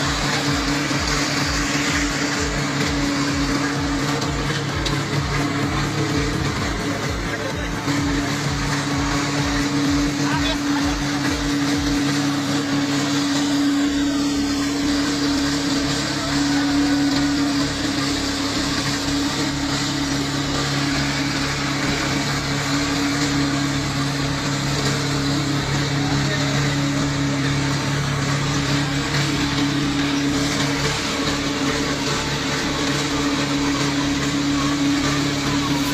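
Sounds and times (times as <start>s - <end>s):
mechanical noise: 0.0s - 35.9s
motor hum: 0.0s - 35.9s.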